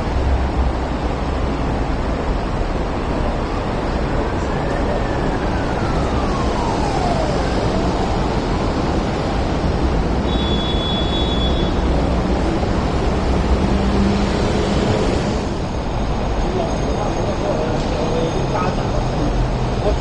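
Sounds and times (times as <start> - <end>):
traffic noise: 0.0 - 20.0
train on elevated track: 0.0 - 20.0.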